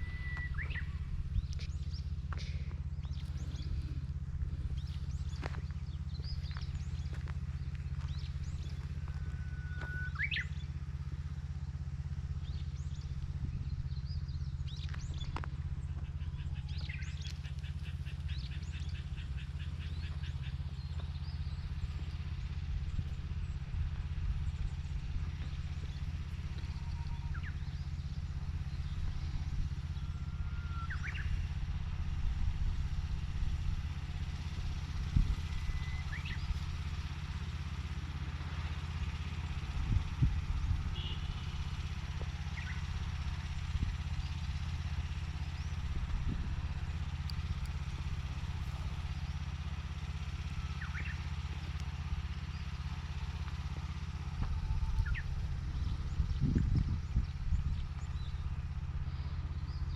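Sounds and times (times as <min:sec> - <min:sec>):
birds chirping: 0:00.0 - 0:59.9
small engine running: 0:00.0 - 0:59.9.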